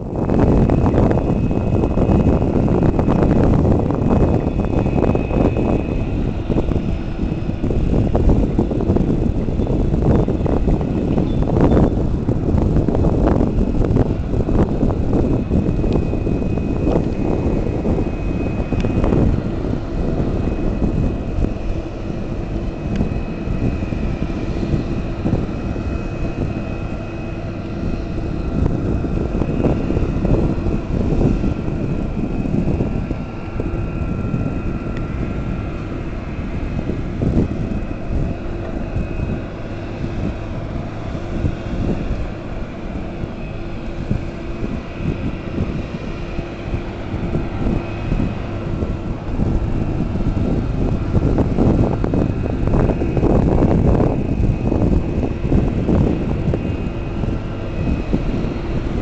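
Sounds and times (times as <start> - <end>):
faint steady whine: 0.0 - 59.0
wind on microphone: 0.0 - 59.0.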